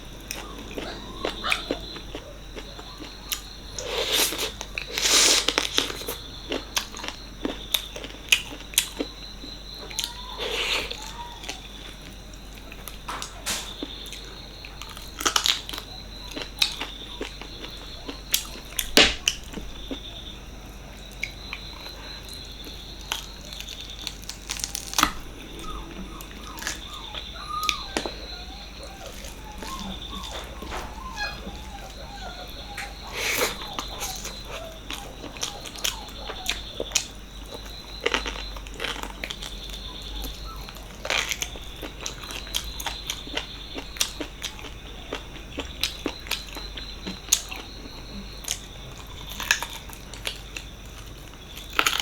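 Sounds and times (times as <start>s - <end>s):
person chewing: 0.2s - 20.1s, 21.1s - 52.0s.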